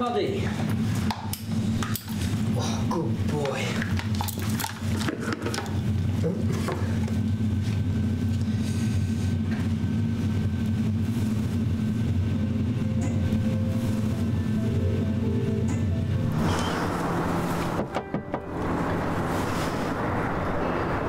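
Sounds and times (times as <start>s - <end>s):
low droning music: 0.0s - 21.0s.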